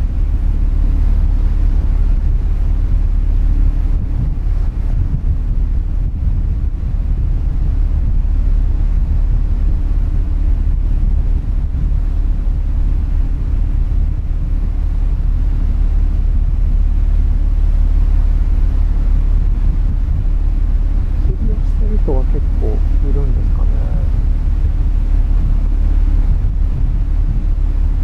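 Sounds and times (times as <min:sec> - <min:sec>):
ferry engine rumble: 0:00.0 - 0:28.0
wind buffeting microphone: 0:00.0 - 0:28.0.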